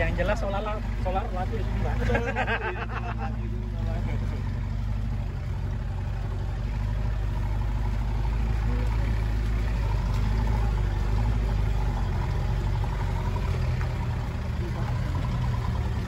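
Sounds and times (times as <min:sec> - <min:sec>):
engine running with deep drone: 0:00.0 - 0:16.0.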